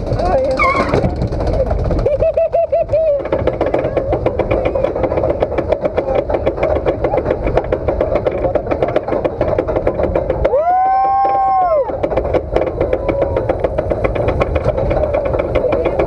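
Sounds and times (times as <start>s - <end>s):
coaster sled rumbling on metal track: 0.0s - 16.0s
rapid clicking of wheels on rails: 0.0s - 16.0s.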